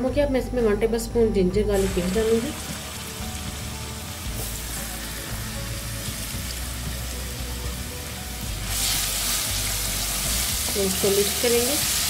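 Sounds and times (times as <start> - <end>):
paste sizzling in hot oil: 1.8 - 12.0.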